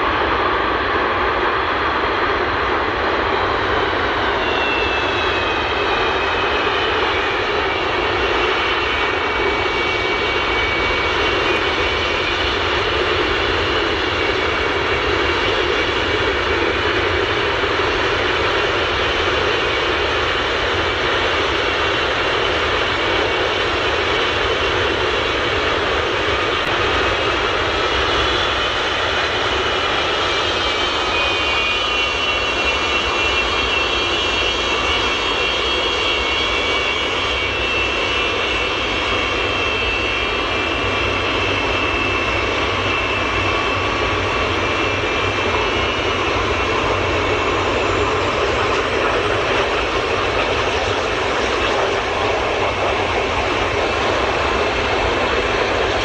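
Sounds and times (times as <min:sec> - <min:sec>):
high turbine whine: 0:00.0 - 0:56.0
jet engine rumble: 0:00.0 - 0:56.0.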